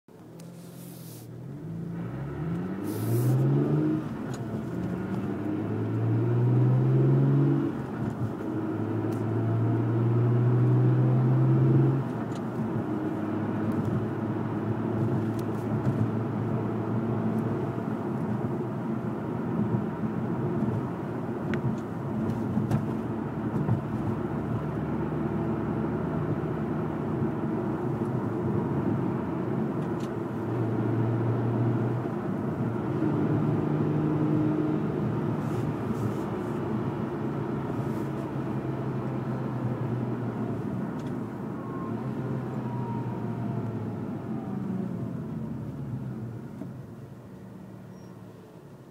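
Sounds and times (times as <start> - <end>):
car engine accelerating: 0.2 - 48.8.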